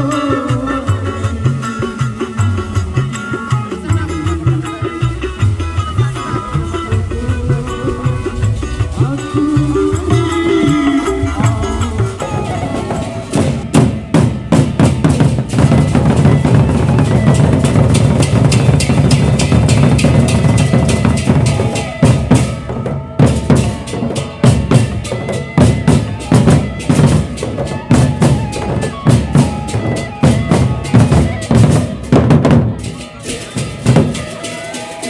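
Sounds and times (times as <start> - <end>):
large drums beaten fast: 0.0 - 35.0.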